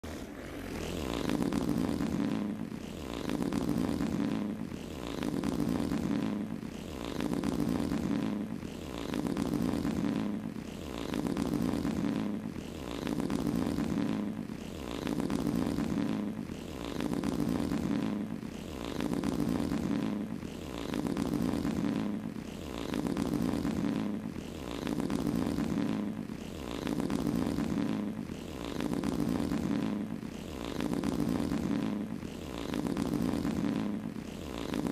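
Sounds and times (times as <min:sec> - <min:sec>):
fart sound effects: 0:00.0 - 0:34.9.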